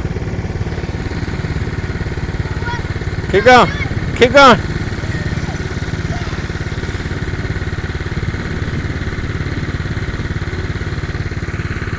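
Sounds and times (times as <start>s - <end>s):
dirt bike engine running steadily: 0.0s - 11.9s.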